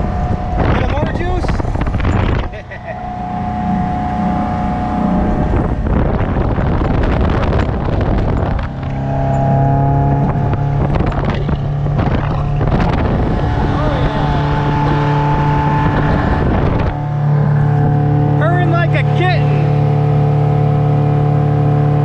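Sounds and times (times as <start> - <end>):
boat engine running: 0.0 - 22.0
wind buffeting microphone: 0.0 - 22.0.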